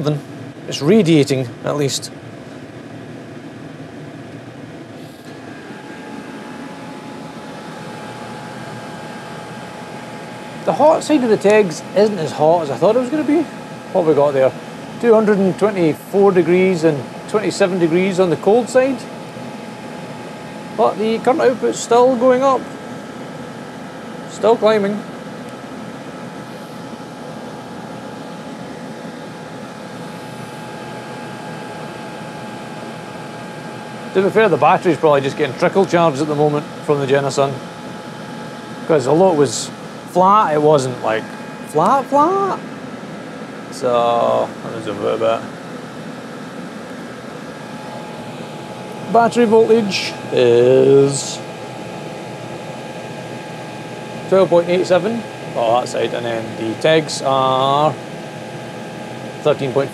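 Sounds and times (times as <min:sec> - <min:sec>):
heater fan whirring: 0:00.0 - 0:59.9
faint thin whine: 0:04.2 - 0:42.6, 0:43.5 - 0:59.9.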